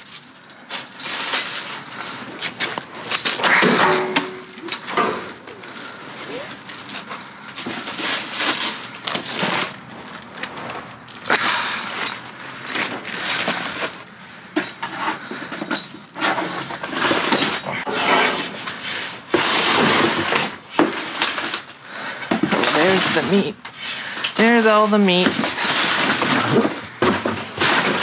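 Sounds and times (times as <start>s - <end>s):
trash bags rustling and crinkling: 0.0s - 28.0s.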